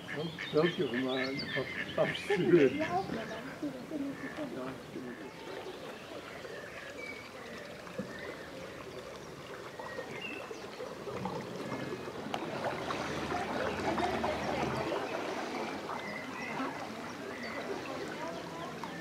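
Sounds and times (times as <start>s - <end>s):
boat wake splashing: 0.0s - 19.0s
water lapping and trickling: 0.0s - 19.0s.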